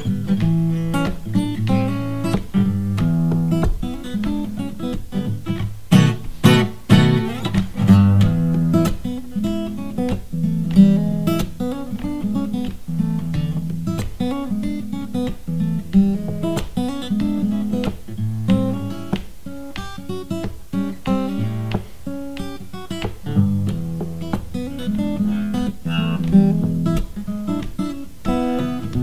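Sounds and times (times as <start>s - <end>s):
acoustic guitar strummed and picked: 0.0s - 29.0s.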